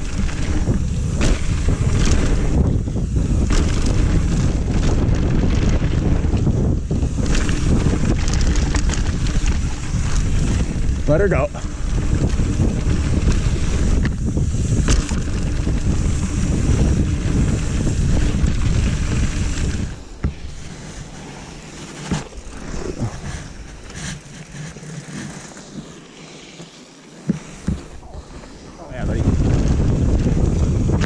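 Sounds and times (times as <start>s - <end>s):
wind buffeting microphone: 0.0s - 24.4s, 27.4s - 31.0s
tyres rumbling over dirt: 0.0s - 26.2s, 27.1s - 31.0s.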